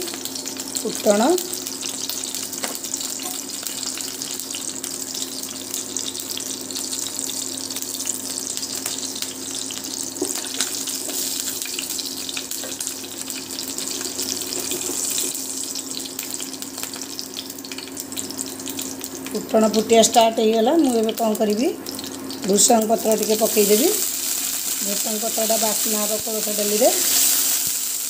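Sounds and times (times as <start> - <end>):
seeds sizzling in hot oil: 0.0 - 28.0.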